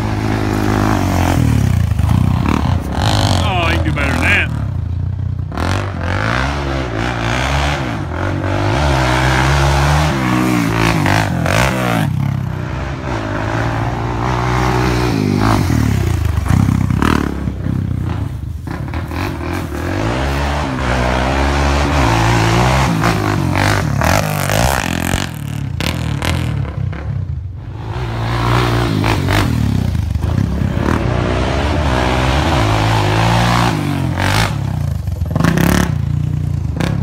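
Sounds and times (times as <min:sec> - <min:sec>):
atv engines revving: 0:00.0 - 0:37.0.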